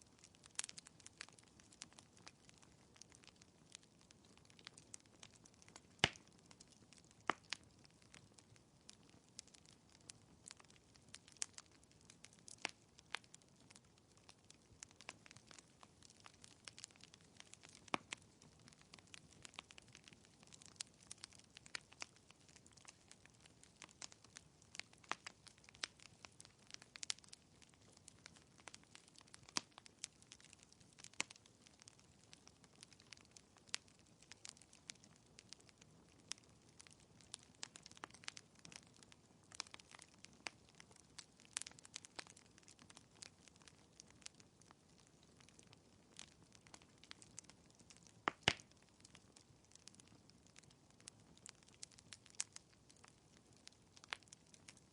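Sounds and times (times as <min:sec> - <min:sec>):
logs crackling in fireplace: 0:00.0 - 0:54.9.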